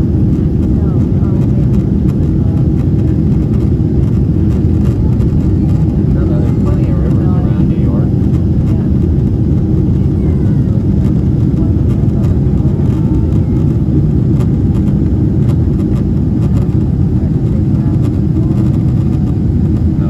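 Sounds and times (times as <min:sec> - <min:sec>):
airplane cabin engine roar: 0:00.0 - 0:20.0.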